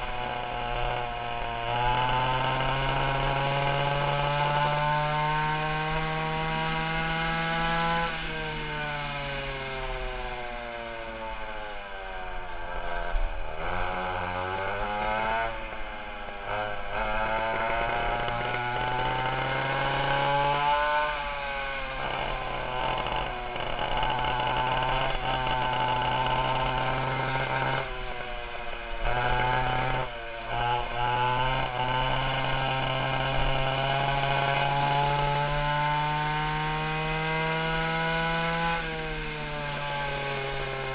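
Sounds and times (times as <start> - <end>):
go-kart engines running hard: 0.0 - 40.9.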